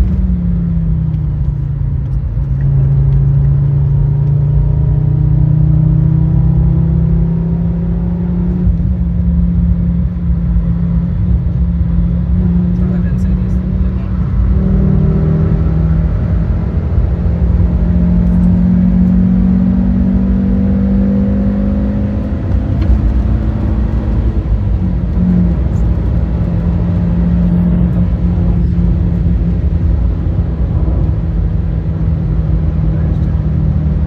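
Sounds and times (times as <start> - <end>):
car engine running under load: 0.0 - 34.0
road rumble: 0.0 - 34.0.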